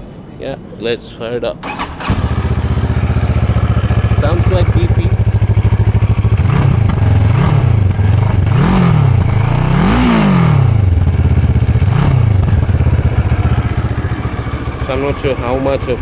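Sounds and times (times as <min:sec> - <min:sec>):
motorcycle engine revving: 0:01.6 - 0:16.0.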